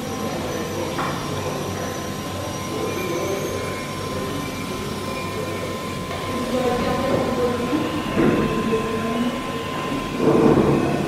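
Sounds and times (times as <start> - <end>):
machinery rumble and hum: 0.0 - 11.0.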